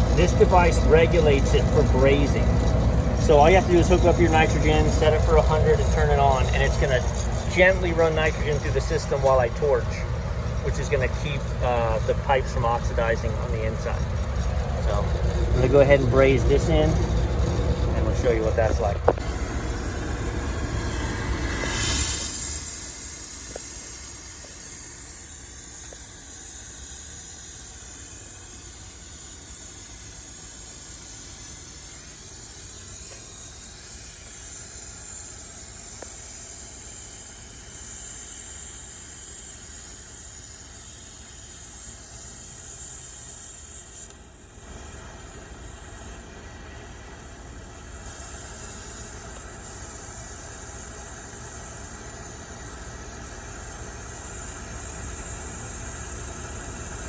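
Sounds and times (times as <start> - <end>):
torch flame hissing: 0.0 - 46.2.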